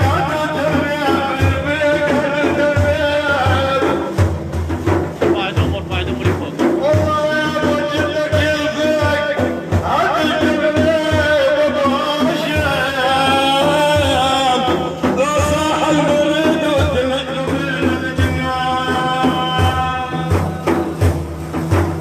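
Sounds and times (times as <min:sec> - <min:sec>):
hand drum beat: 0:00.0 - 0:22.0.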